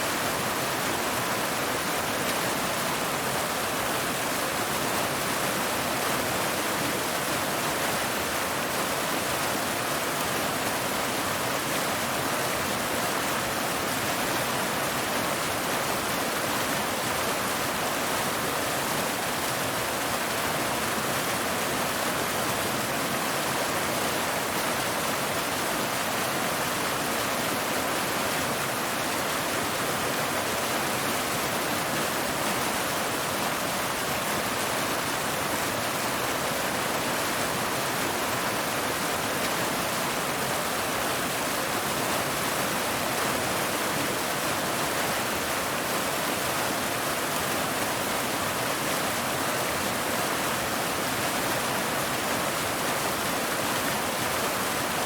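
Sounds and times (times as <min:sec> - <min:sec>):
waterfall splashing over rocks: 0:00.0 - 0:55.0.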